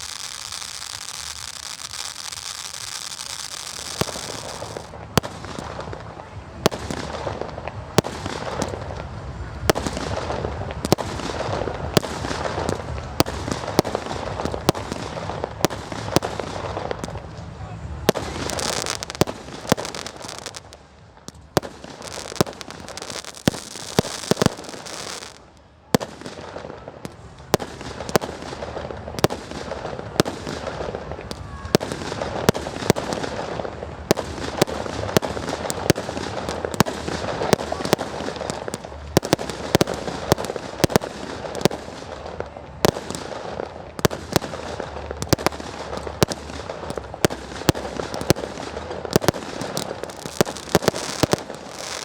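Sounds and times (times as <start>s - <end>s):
constant hiss: 0.0s - 52.0s
fireworks banging: 0.0s - 52.0s.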